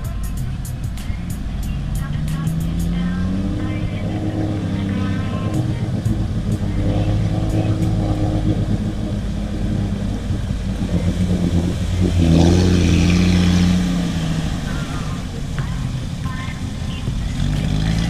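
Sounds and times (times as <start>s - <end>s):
engine running under load: 0.0s - 18.0s
water and mud splashing: 0.0s - 18.0s.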